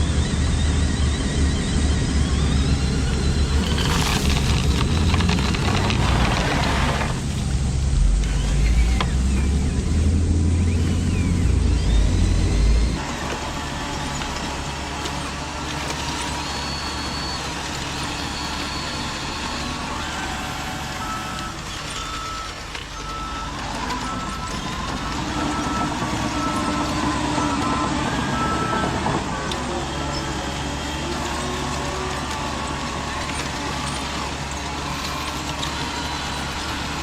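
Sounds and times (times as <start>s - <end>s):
vehicle reversing alarm beeping: 0.0s - 7.2s, 8.1s - 37.0s
vehicle running noise: 0.0s - 37.0s.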